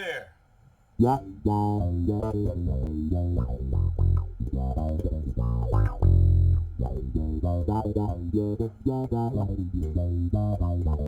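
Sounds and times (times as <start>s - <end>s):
electric bass guitar plucked notes: 1.0s - 11.0s.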